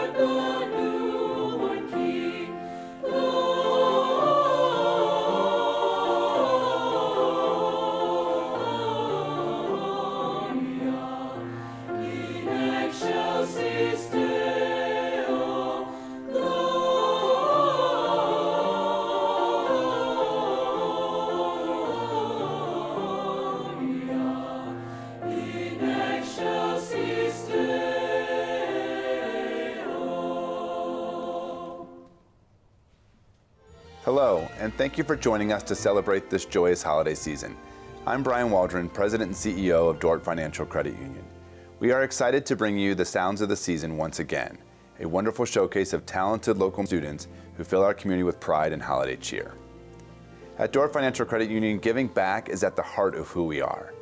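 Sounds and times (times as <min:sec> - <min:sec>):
choir singing a carol: 0:00.0 - 0:32.3, 0:33.7 - 0:54.0.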